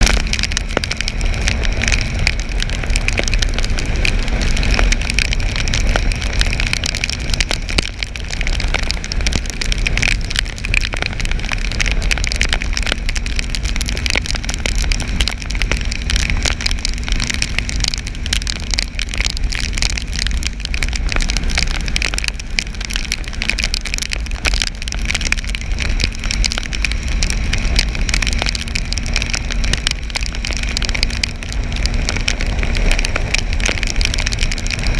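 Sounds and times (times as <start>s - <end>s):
raindrops ticking on microphone: 0.0s - 34.9s
road rumble: 0.0s - 34.9s
wind: 0.0s - 34.9s.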